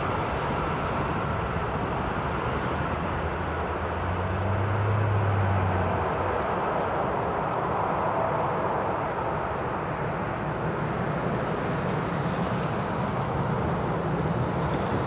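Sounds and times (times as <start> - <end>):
jet airliner taking off: 0.0 - 15.0.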